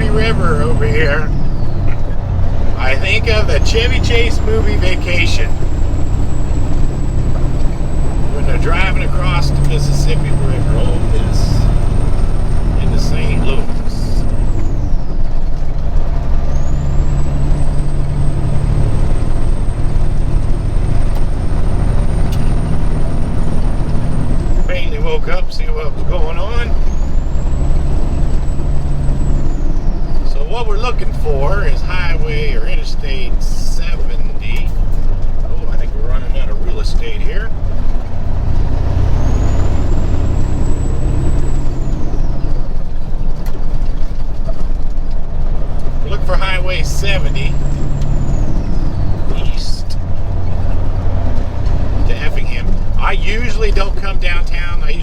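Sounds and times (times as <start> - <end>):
road noise: 0.0 - 55.0
truck diesel engine running: 0.0 - 55.0.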